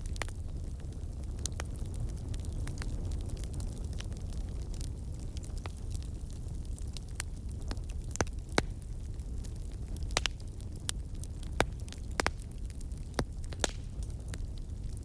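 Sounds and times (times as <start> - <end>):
campfire crackling pops: 0.0 - 15.0.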